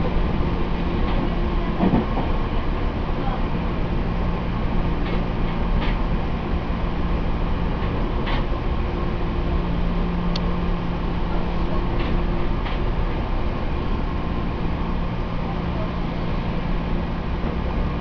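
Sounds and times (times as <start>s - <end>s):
train rumble and low hum: 0.0s - 18.0s.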